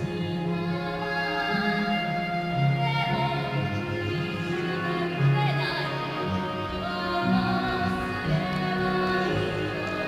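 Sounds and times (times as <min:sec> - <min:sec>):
slow orchestral string music: 0:00.0 - 0:10.0.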